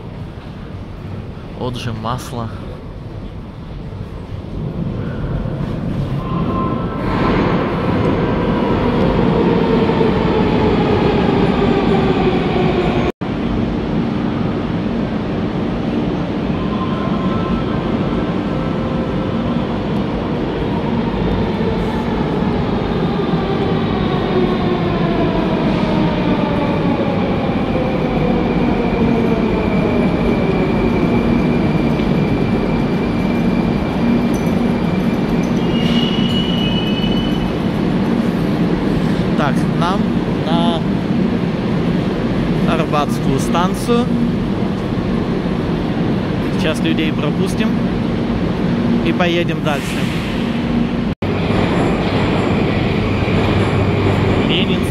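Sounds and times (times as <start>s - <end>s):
metro train wheels rumbling: 0.0s - 54.9s.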